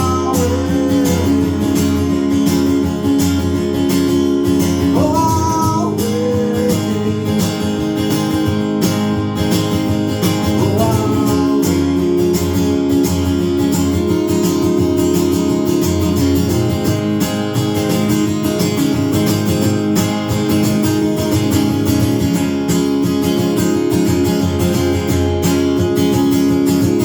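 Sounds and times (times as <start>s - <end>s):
acoustic guitar strumming: 0.0s - 27.0s
sliding guitar notes: 0.0s - 27.0s.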